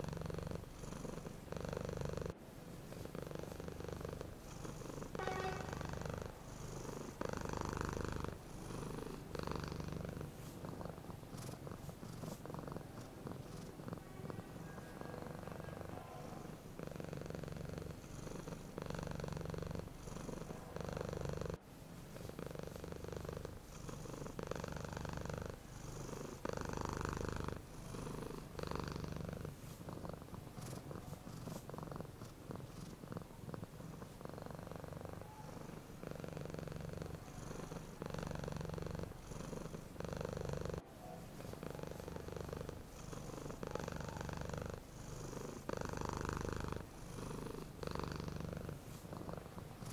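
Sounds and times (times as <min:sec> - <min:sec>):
cat purring: 0:00.0 - 0:49.9.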